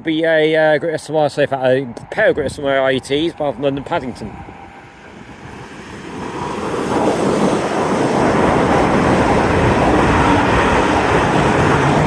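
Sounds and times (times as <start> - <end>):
train passing at speed: 2.0 - 12.0.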